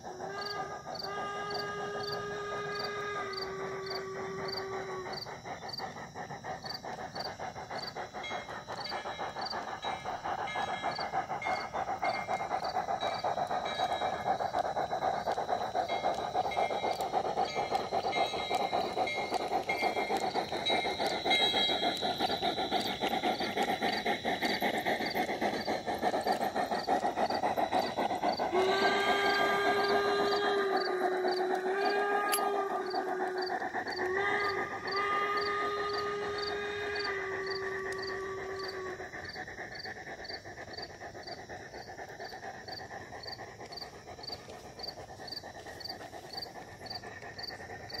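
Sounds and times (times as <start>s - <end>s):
insect chirping: 0.0s - 48.0s
model steam locomotive chuffing: 0.0s - 48.0s
wheels clicking over rail joints: 0.0s - 48.0s.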